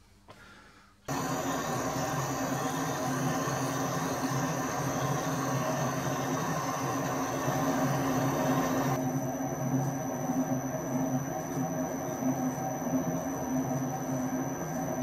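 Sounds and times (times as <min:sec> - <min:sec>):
metal lathe drone and whine: 0:01.1 - 0:15.0.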